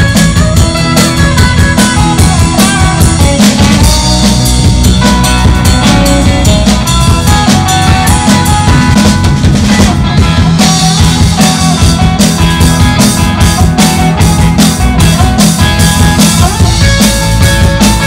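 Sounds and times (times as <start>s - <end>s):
drum kit beat: 0.0s - 18.0s
electric bass: 0.0s - 18.0s
electric guitars: 0.0s - 18.0s.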